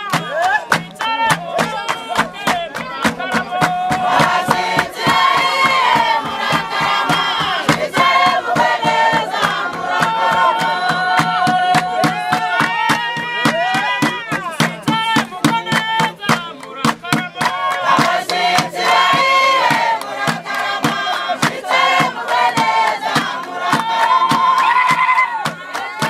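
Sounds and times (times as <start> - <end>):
group singing: 0.0 - 26.0
music with steady beat: 0.0 - 26.0.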